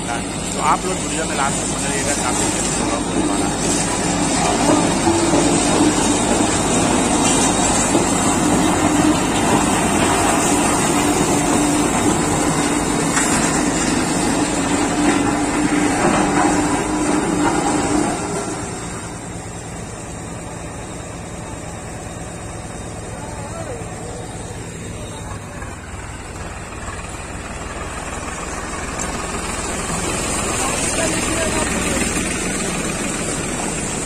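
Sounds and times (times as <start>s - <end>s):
road roller diesel engine: 0.0s - 34.0s.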